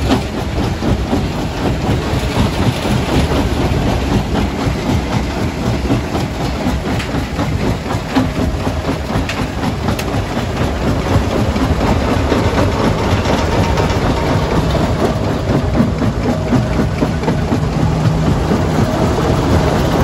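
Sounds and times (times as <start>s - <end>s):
rock crusher rumbling: 0.0s - 20.0s.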